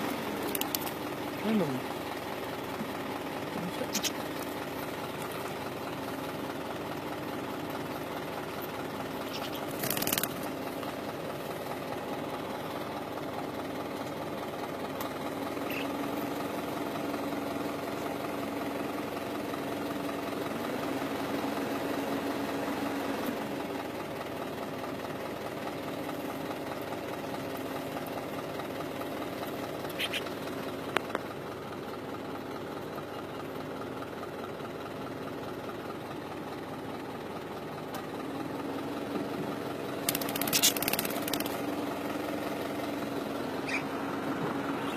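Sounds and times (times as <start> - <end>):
car engine idling: 0.0 - 22.4, 23.6 - 44.9.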